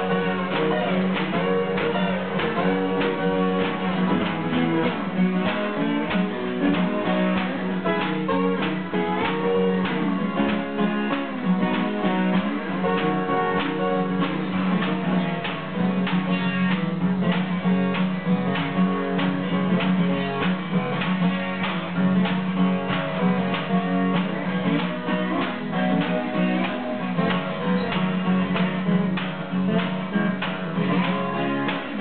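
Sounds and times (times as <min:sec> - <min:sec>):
slide guitar lead: 0:00.0 - 0:32.0
strummed acoustic guitar rhythm: 0:00.0 - 0:32.0.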